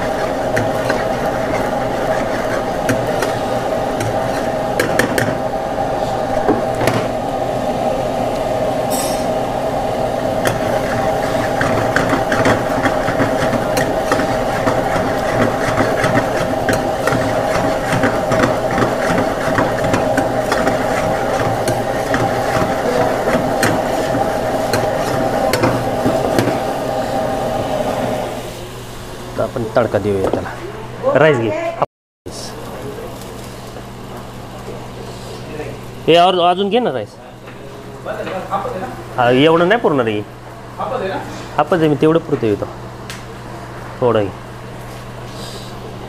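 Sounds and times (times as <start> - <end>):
kitchen hum: 0.0 - 46.0.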